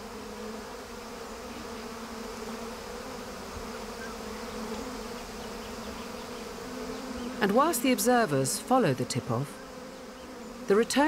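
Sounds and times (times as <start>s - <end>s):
bees buzzing en masse: 0.0s - 11.0s.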